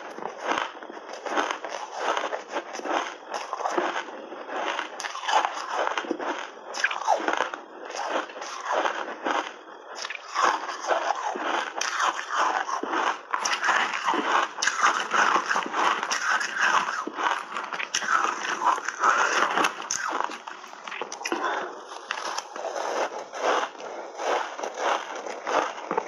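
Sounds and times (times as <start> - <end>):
ice crunching between teeth: 0.0 - 26.0.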